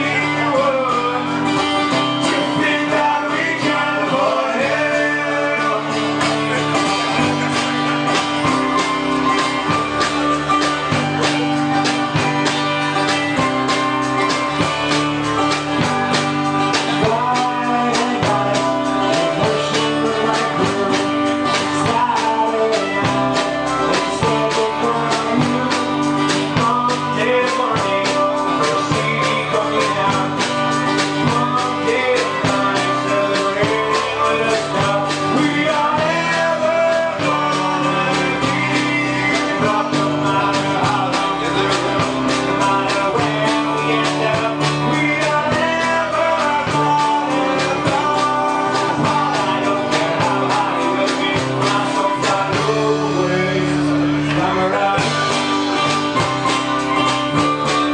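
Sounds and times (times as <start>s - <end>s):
punk rock band playing live: 0.0s - 57.9s.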